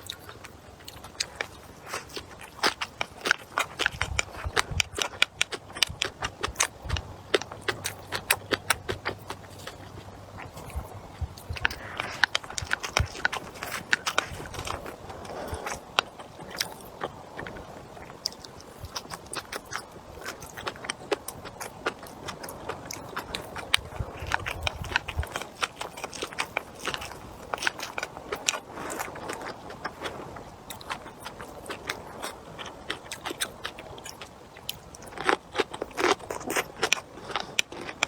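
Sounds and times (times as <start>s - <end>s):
person chewing and crunching: 0.0s - 38.0s.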